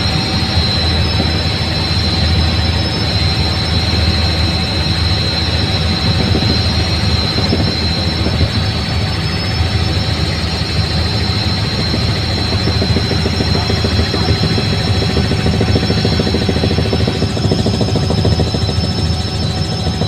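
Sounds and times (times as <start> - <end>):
helicopter rotor and engine drone: 0.0 - 20.0
high whine: 0.0 - 20.0.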